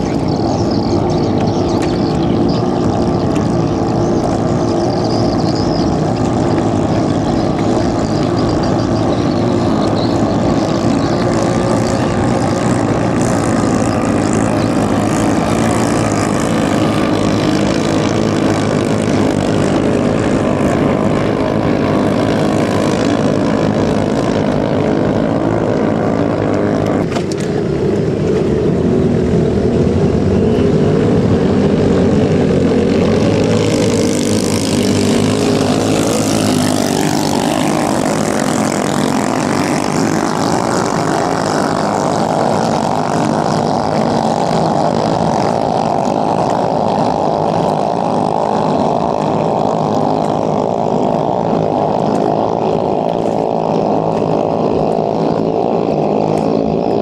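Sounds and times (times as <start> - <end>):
another boat engine: 0.0 - 57.0
longtail boat engines droning: 0.0 - 57.0.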